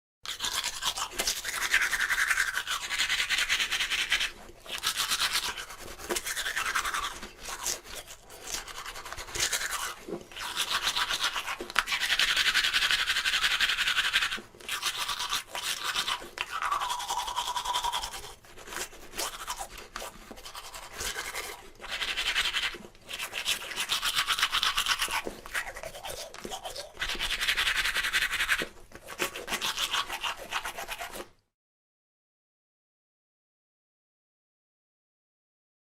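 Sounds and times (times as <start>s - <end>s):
toothbrush scrubbing teeth: 0.3s - 31.4s.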